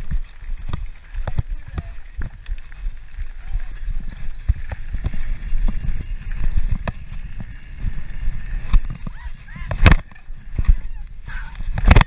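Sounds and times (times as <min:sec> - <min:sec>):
bike knocking and rattling: 0:00.0 - 0:12.0
mountain bike rolling on dirt trail: 0:00.0 - 0:12.0.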